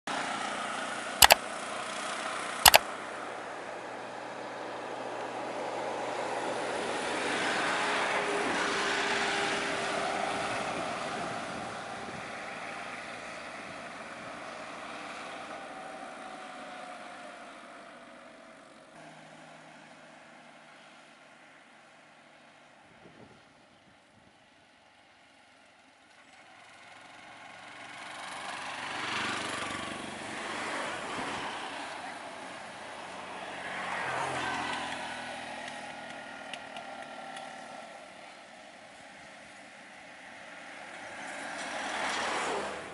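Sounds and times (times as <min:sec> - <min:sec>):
vehicle engines: 0:00.1 - 0:42.9.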